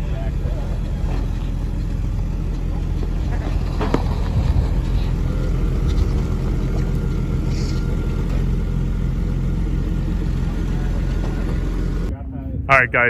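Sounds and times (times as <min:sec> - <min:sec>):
car engine idling: 0:00.0 - 0:12.1.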